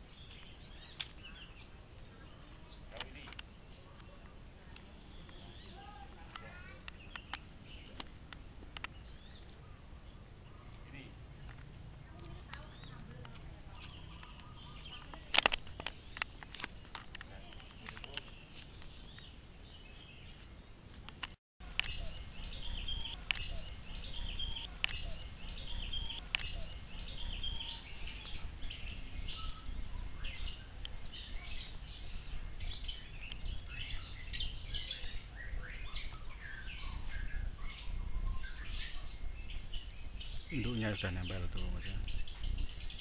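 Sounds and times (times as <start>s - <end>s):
birds chirping rapidly: 0.0s - 20.9s, 21.6s - 43.0s.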